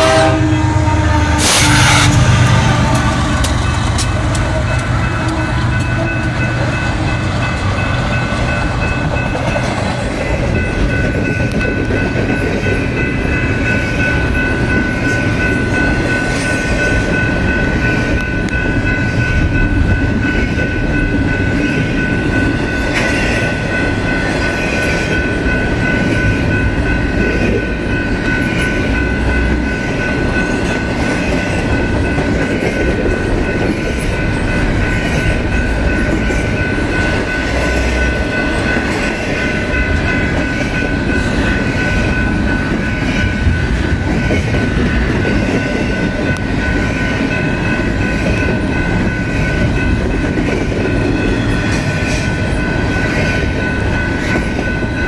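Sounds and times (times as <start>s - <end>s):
diesel locomotives passing: 0.0s - 55.0s
train cars rumbling: 0.0s - 55.0s.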